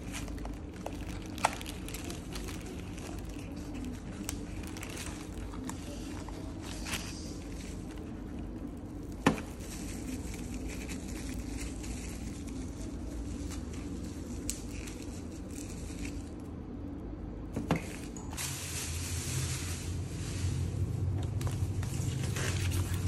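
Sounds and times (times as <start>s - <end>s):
plastic wrap rustling: 0.0s - 16.6s, 17.6s - 23.0s.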